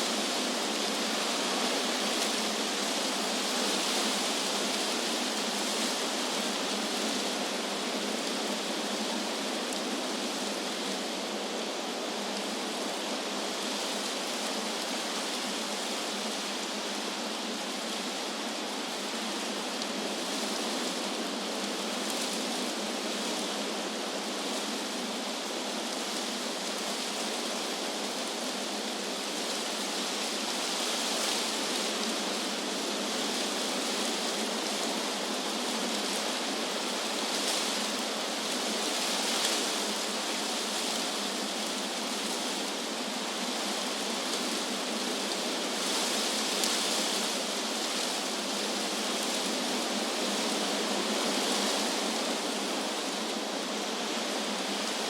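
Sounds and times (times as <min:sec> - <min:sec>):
wind blowing through trees: 0:00.0 - 0:55.0.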